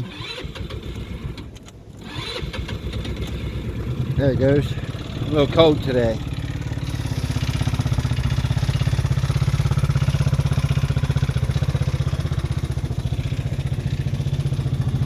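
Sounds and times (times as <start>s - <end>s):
engine idling with rapid pulsing: 0.0s - 15.0s.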